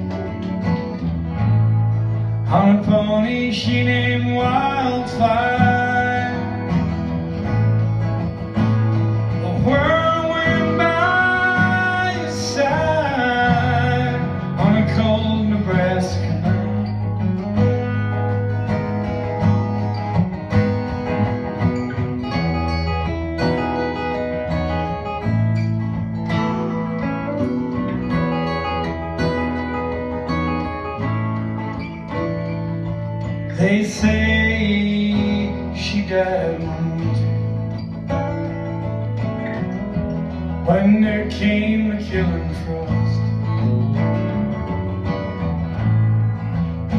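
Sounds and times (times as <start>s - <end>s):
acoustic guitars strumming and picking: 0.0s - 46.9s
electric bass guitar: 0.0s - 46.9s.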